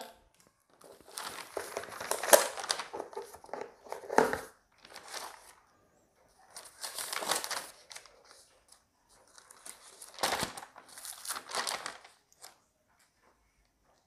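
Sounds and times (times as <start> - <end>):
rustling and crinkling: 0.4 - 14.0.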